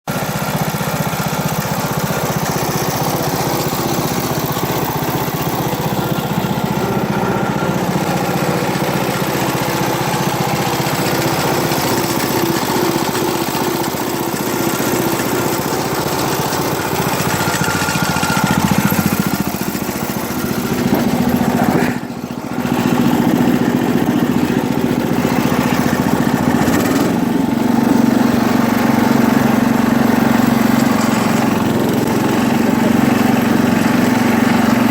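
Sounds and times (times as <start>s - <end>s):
garden tractor engine running: 0.1s - 34.9s.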